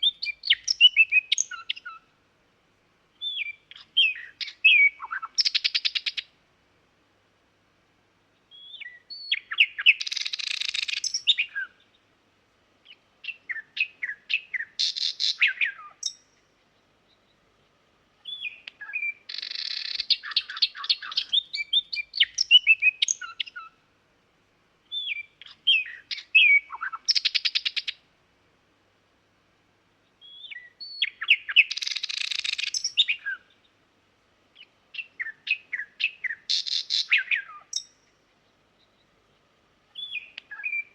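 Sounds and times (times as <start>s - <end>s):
nightingale singing: 0.0s - 2.1s, 3.1s - 6.4s, 8.2s - 12.1s, 12.8s - 23.8s, 24.8s - 28.1s, 30.0s - 33.8s, 34.5s - 40.9s.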